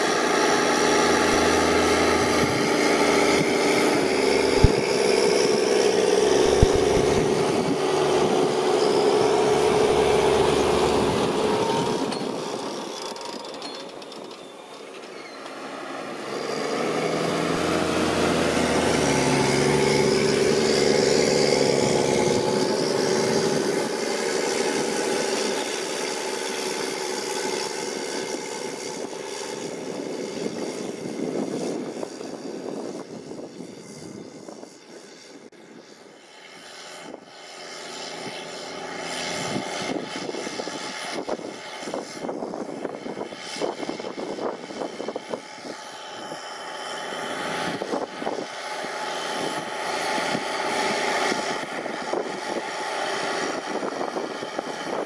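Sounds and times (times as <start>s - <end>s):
rough clatter of tractor: 0.0s - 55.0s
tractor diesel engine under load: 0.0s - 55.0s.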